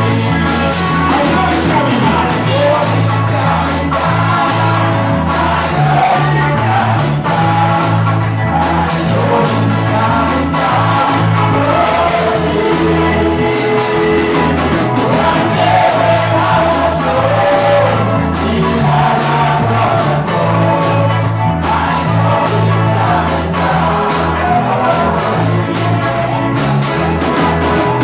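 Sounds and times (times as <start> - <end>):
band playing worship music: 0.0 - 28.0
steady bass line: 0.0 - 28.0
voices singing: 0.0 - 28.0.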